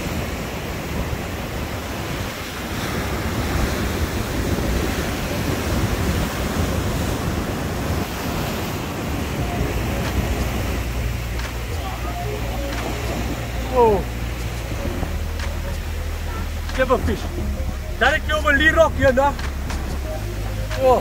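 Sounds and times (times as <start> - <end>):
surf washing over rocks: 0.0 - 21.0
wind on microphone: 0.0 - 21.0.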